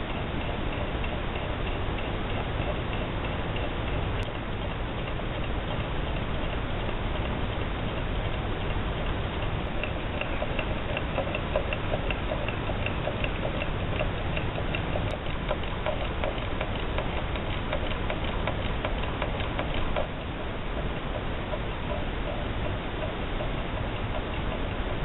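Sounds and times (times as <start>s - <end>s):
small engine rhythmic ticking: 0.0s - 25.0s.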